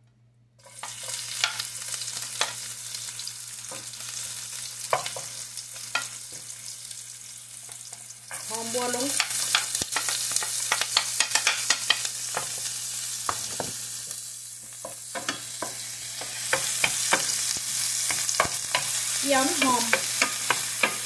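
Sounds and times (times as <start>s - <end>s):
onions sizzling in oil: 0.6s - 21.0s.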